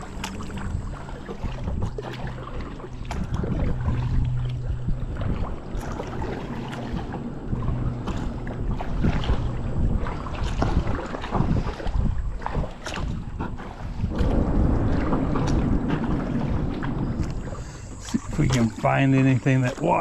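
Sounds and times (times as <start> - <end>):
water sloshing against kayak: 0.0 - 20.0
wind buffeting microphone: 0.0 - 20.0.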